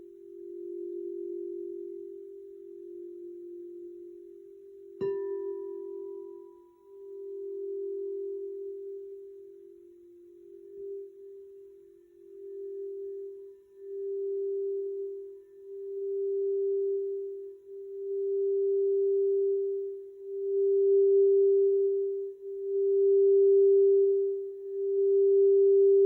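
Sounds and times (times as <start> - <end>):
crystal singing bowl tone: 0.0 - 26.0.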